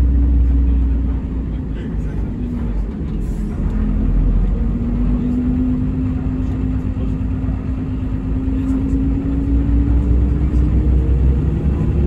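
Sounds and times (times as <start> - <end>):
diesel drivetrain whine: 0.0 - 12.0
low road rumble: 0.0 - 12.0.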